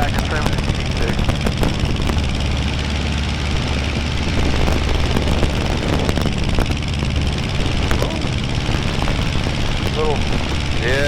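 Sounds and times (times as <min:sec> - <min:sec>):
plane engine and propeller droning: 0:00.0 - 0:11.0.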